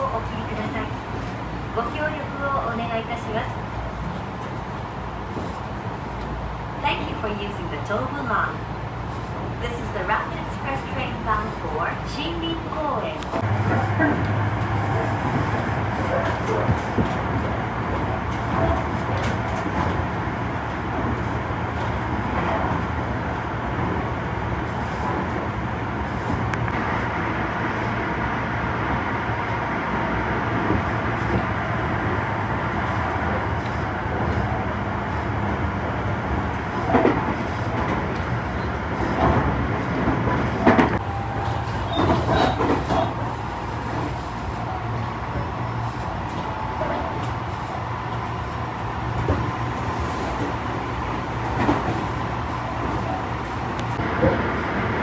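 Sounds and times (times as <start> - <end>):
steady train hum: 0.0 - 55.0
train wheels rumbling on rail: 0.0 - 55.0.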